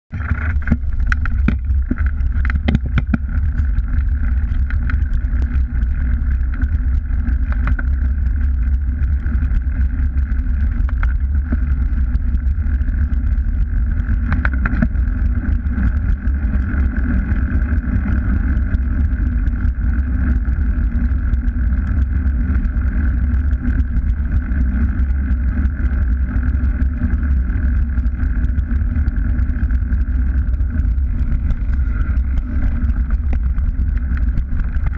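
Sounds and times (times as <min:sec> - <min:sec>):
bike rattling: 0:00.1 - 0:34.9
bike tyres rolling on lane: 0:00.1 - 0:34.9
wind rumble on microphone: 0:00.1 - 0:34.9.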